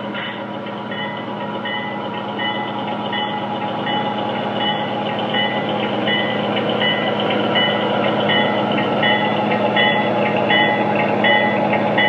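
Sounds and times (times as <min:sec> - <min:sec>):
diesel locomotive engine drone: 0:00.0 - 0:12.0
train bell ringing: 0:00.0 - 0:12.0.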